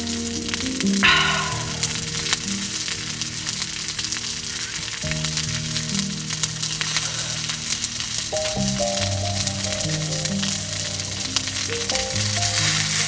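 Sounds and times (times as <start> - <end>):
food sizzling in hot fat: 0.0 - 13.0.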